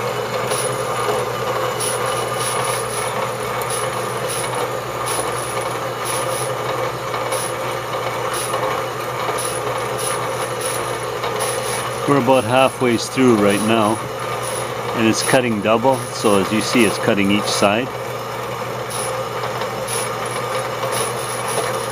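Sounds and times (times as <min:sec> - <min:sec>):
bandsaw cutting metal: 0:00.0 - 0:21.9
motor hum: 0:00.0 - 0:21.9.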